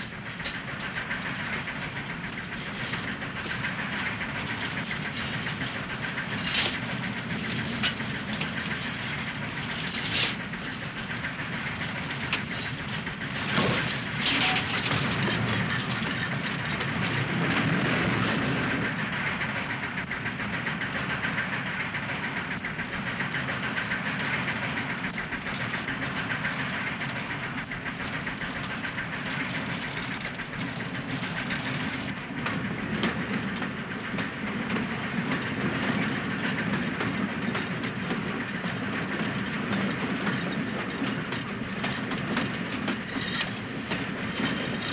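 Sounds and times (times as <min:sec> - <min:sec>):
steam locomotive running: 0:00.0 - 0:44.9.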